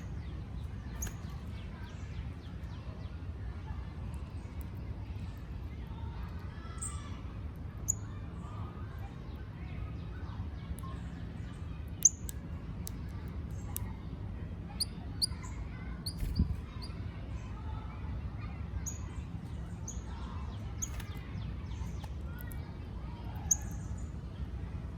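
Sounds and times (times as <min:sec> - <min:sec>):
garden birds chirping: 0:00.0 - 0:24.9.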